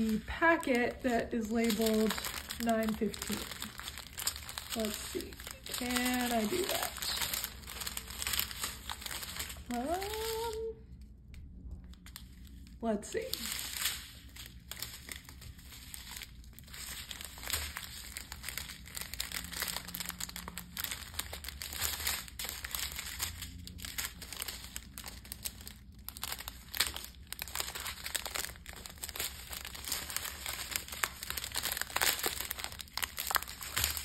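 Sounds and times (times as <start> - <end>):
plastic packets crinkling: 0.0 - 10.7, 11.9 - 34.0.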